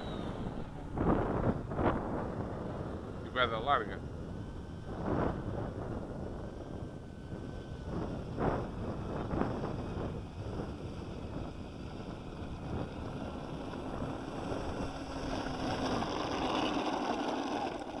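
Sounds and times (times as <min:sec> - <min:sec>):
electric ducted fan running: 0:00.0 - 0:18.0
wind buffeting microphone: 0:00.0 - 0:18.0.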